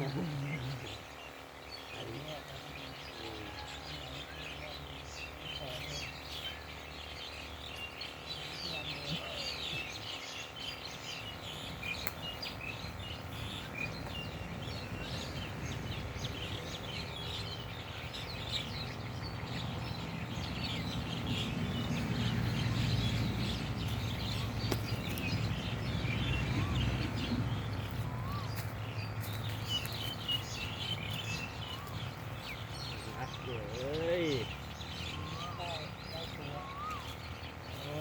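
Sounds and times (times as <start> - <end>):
low outdoor rumble: 0.0 - 38.0
small birds chirping: 0.0 - 38.0.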